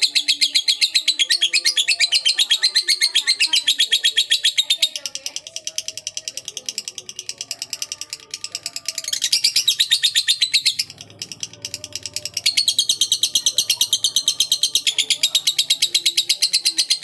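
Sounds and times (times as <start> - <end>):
rapid high chirps: 0.0 - 17.0.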